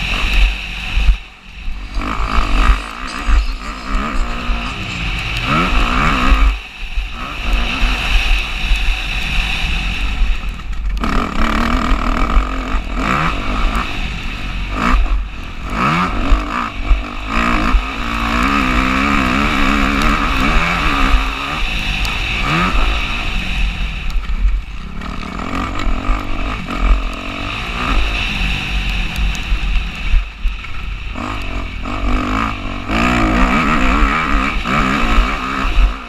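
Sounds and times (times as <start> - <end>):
motorbike engine revving: 0.0 - 36.0
wind rumble on microphone: 0.0 - 36.0.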